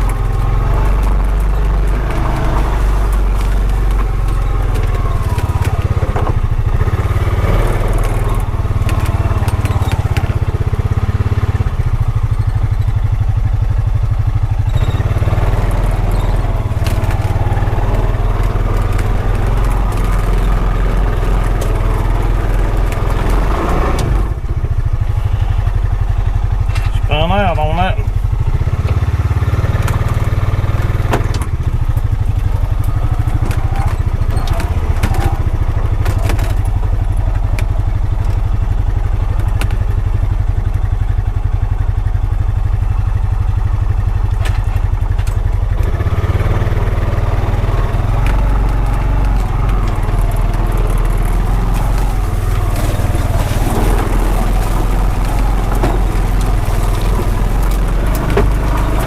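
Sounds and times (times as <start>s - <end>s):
tyres crunching over rough ground: 0.0s - 59.0s
vehicle engine running: 0.0s - 59.0s.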